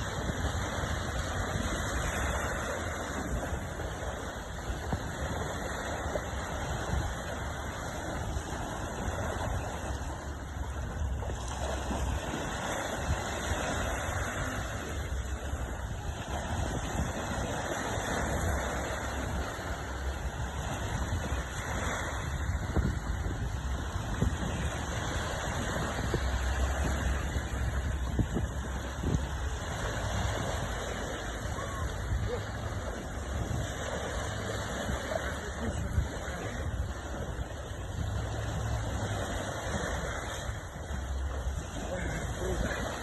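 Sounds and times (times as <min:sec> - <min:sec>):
sea waves washing: 0:00.0 - 0:43.0
wind buffeting microphone: 0:00.0 - 0:43.0.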